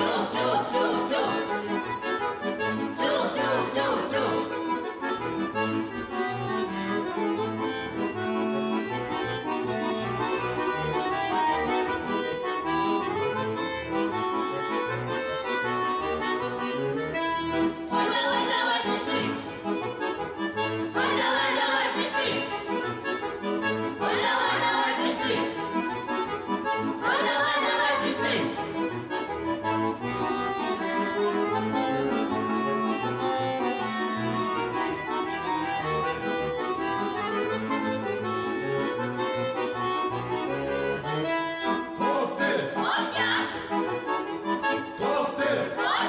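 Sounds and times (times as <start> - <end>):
accordion playing folk tune: 0.0 - 46.0.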